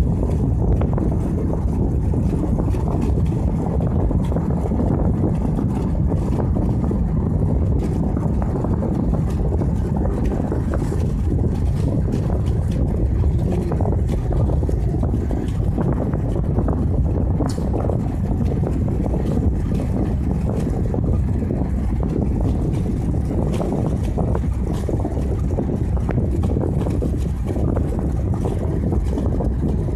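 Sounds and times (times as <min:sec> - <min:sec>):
vehicle low rumble: 0:00.0 - 0:29.9
wind buffeting microphone: 0:00.0 - 0:29.9.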